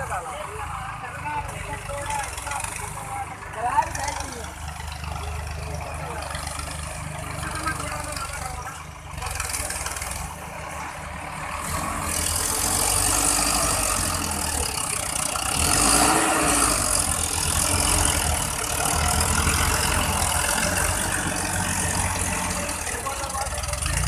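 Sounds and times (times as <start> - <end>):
second tractor engine: 0.0 - 24.0
tractor diesel engine under load: 0.0 - 24.0.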